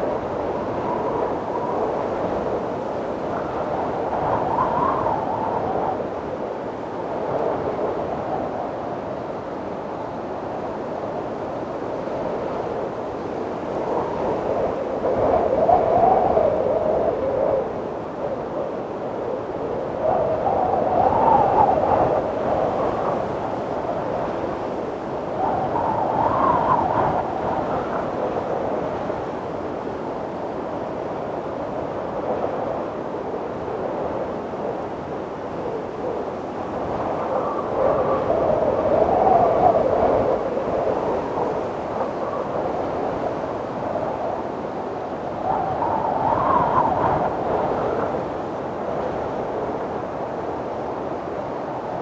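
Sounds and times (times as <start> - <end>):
wind blowing: 0.0 - 52.0.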